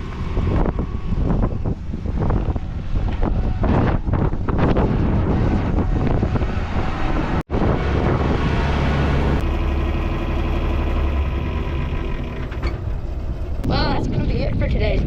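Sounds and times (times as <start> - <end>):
heavy engine running: 0.0 - 15.0
wind noise on microphone: 0.0 - 15.0.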